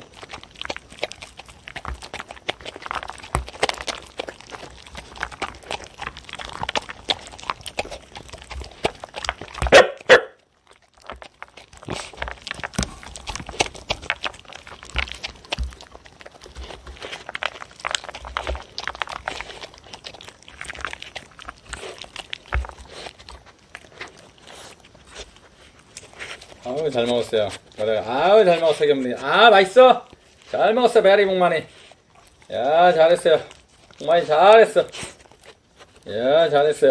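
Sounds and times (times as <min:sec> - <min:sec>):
dogs chewing kibble: 0:00.0 - 0:36.9.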